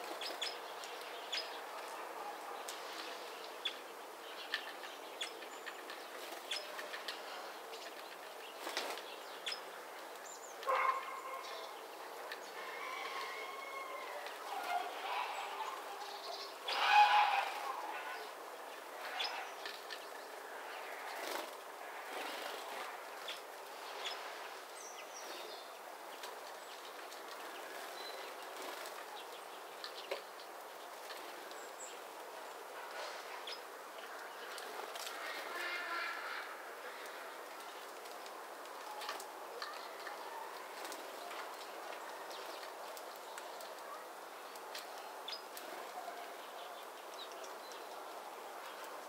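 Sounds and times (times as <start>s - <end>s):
small birds chirping: 0.0s - 13.3s, 22.2s - 49.0s
outdoor background hiss: 0.0s - 49.0s.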